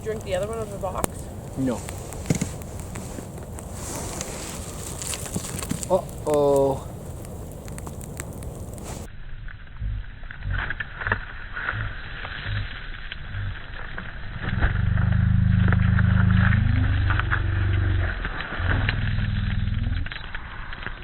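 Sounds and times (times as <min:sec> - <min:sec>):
low droning hum: 0:00.0 - 0:20.8
campfire crackling and popping: 0:00.0 - 0:21.0.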